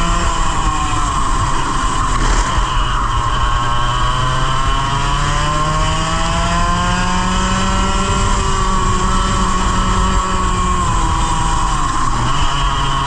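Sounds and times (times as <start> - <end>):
kart engine accelerating: 0.0 - 13.0.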